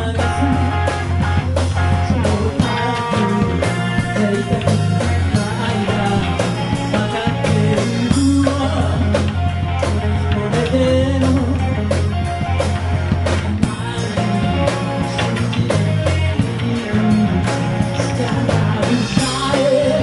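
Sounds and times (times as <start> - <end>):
bass guitar: 0.0 - 20.0
drum beat: 0.0 - 20.0
electric guitars: 0.0 - 20.0.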